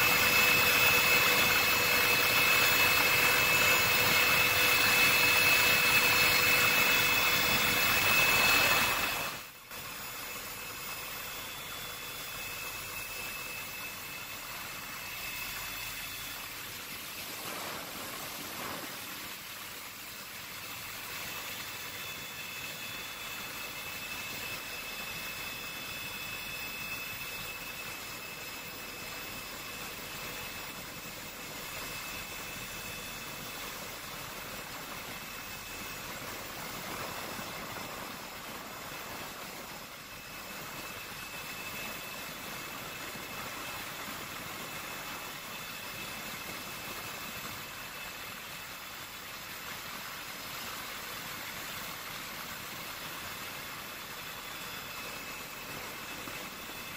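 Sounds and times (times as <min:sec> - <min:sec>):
aircraft engine drone and hiss: 0:00.0 - 0:56.9.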